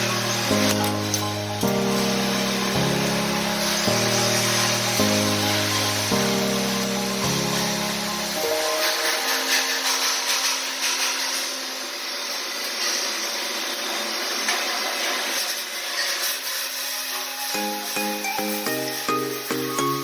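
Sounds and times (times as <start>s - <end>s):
welding arc crackling hiss: 0.0s - 20.0s.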